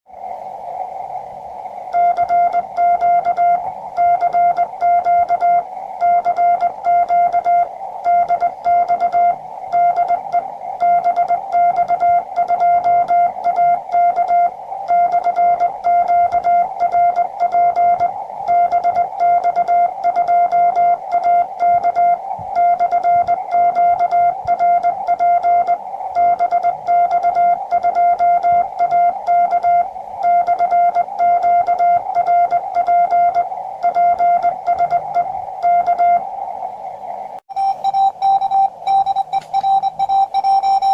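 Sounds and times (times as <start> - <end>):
receiver hiss: 0.1 - 40.9
morse code beeps: 2.0 - 36.2, 37.5 - 40.9.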